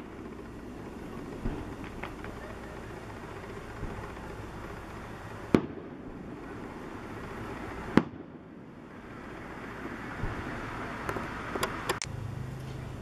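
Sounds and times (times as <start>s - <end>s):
fireworks bangs: 0.0s - 12.0s
steady background noise: 0.0s - 13.0s.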